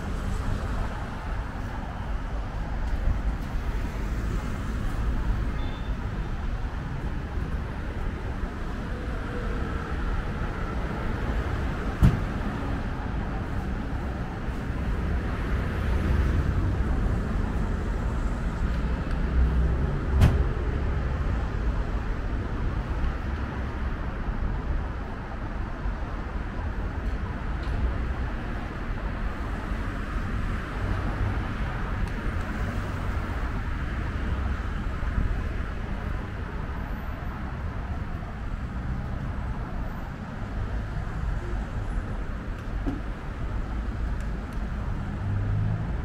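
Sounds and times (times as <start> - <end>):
passing cars and buses: 0.0 - 46.0.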